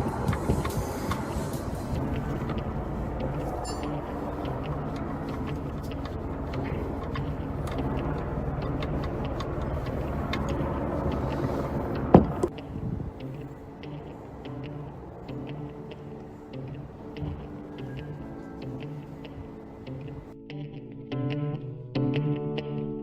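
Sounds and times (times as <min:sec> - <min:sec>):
car engine idling: 0:00.0 - 0:20.3.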